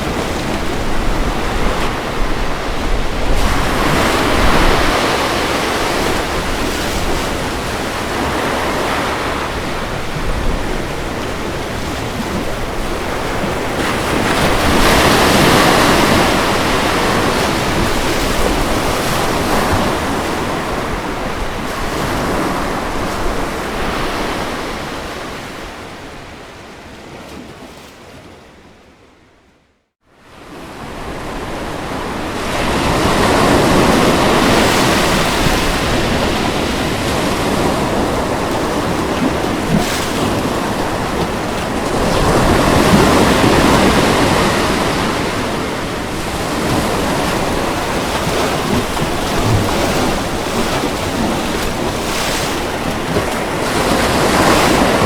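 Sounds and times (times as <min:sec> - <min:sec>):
ocean waves on shore: 0:00.0 - 0:29.3, 0:30.1 - 0:55.0.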